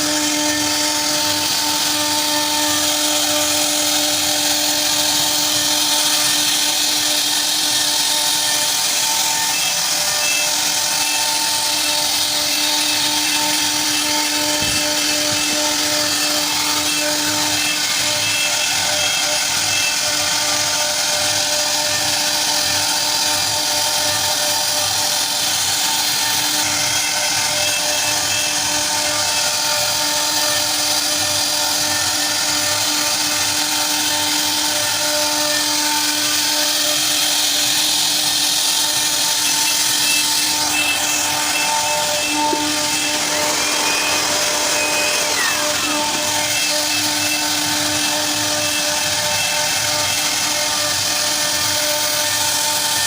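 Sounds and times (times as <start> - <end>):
bit cutting into wood: 0.0 - 53.0
router spindle whining: 0.0 - 53.0.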